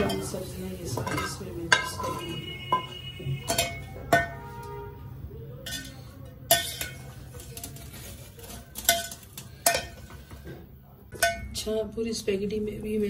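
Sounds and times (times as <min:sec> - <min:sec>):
metal spoon stirring in a pot: 0:00.0 - 0:11.9.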